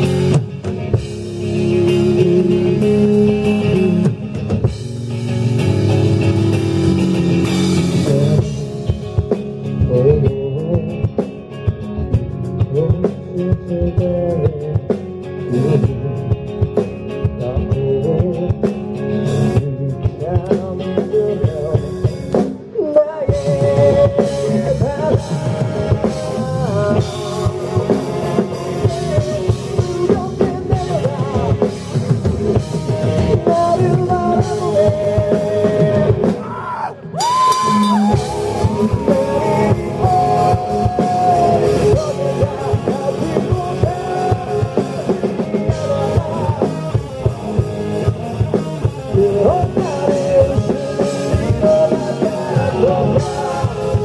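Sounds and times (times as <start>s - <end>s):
man singing: 0.0s - 4.7s, 7.8s - 54.0s
distorted electric guitars: 0.0s - 54.0s
drums: 0.0s - 54.0s.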